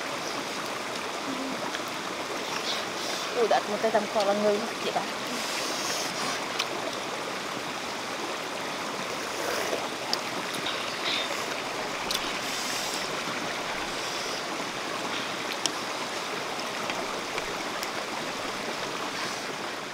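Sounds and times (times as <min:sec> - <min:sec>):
stream running over stones: 0:00.0 - 0:19.9.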